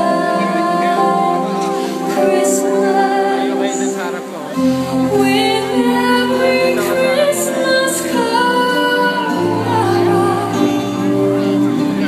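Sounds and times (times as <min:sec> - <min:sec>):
woman singing over music: 0:00.0 - 0:12.0.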